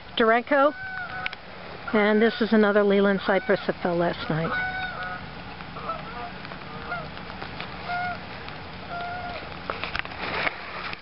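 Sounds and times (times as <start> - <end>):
geese honking: 0.5 - 9.5.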